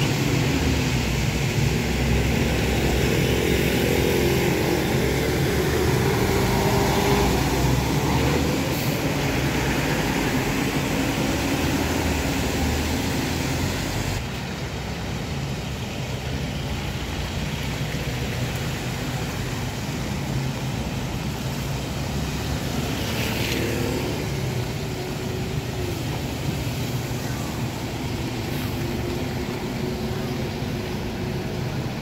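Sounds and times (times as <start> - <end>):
tyre hiss on wet road: 0.0 - 32.0
vehicle engine drone: 0.0 - 32.0.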